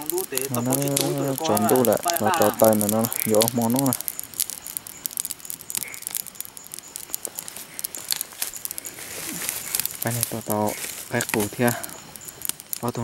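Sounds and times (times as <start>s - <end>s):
campfire crackling: 0.0s - 13.0s
faint fire hiss: 0.0s - 13.0s.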